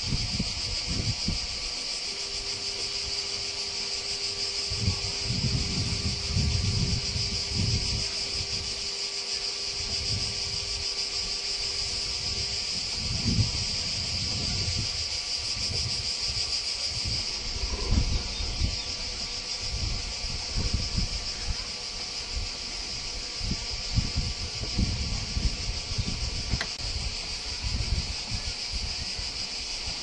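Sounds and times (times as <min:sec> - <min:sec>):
insects shrilling: 0:00.0 - 0:30.0
wind rumbling on microphone: 0:00.0 - 0:30.0.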